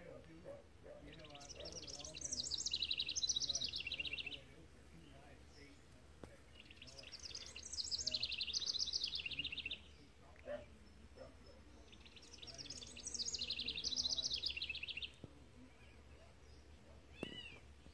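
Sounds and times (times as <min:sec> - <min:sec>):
songbird trilling: 0:00.5 - 0:05.8, 0:06.5 - 0:17.9.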